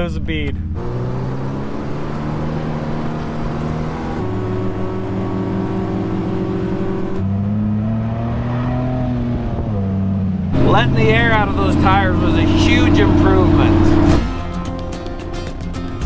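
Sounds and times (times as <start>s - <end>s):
off-road vehicle engines running: 0.0s - 16.0s.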